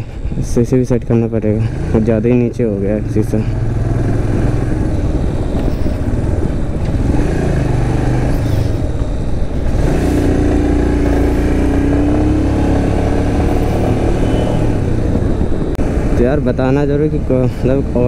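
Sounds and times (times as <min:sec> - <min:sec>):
wind rumble on microphone: 0:00.0 - 0:18.0
motorcycle engine running: 0:01.5 - 0:18.0.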